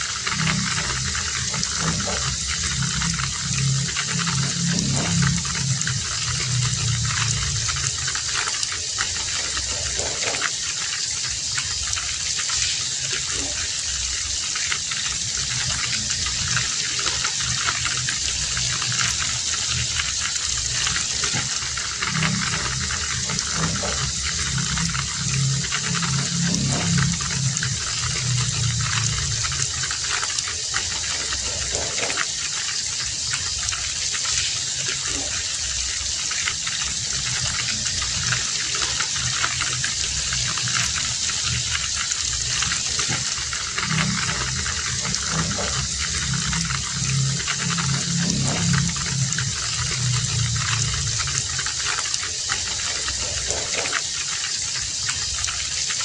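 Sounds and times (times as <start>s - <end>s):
low rumble: 0.0s - 10.5s, 15.0s - 32.3s, 36.4s - 53.8s
heavy rain: 0.0s - 56.0s.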